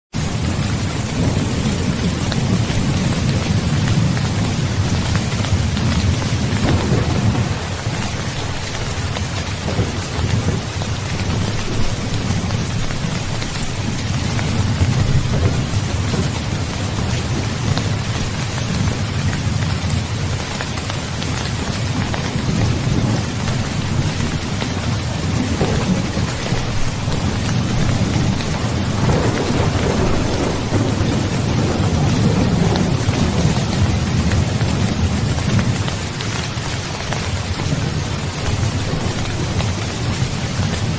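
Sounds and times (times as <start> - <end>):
heavy rain falling: 0.1 - 40.9
low rolling thunder: 0.2 - 40.9.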